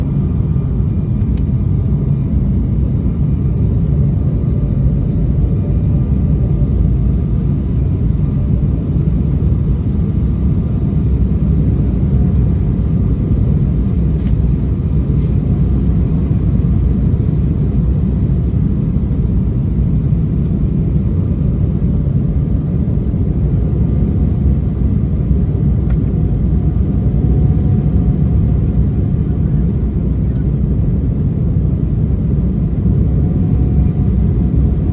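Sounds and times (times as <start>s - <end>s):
airliner cabin engine drone: 0.0s - 34.9s.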